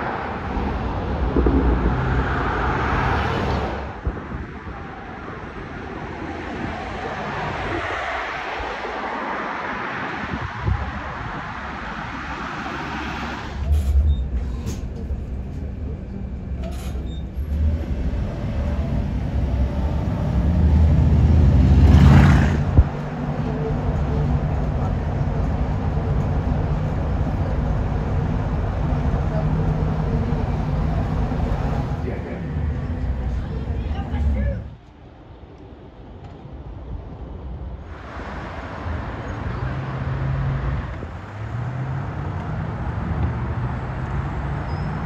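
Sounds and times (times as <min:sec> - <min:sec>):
street traffic: 0:00.0 - 0:45.0.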